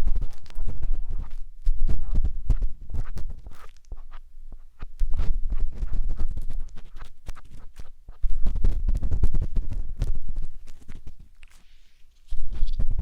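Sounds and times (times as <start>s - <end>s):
matchstick scratching microphone: 0.0s - 13.0s.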